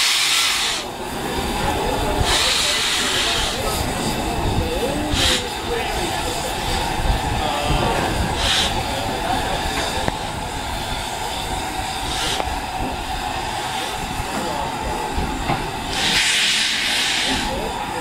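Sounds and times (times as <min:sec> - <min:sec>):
train running: 0:00.0 - 0:18.0.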